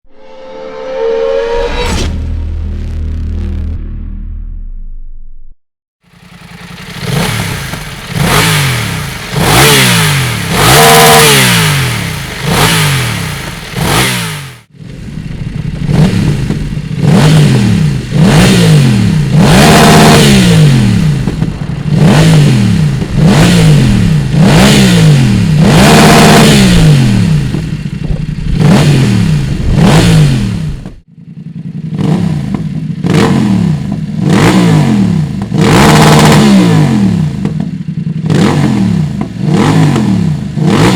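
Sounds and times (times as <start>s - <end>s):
motorcycle engine revving: 6.0s - 40.9s.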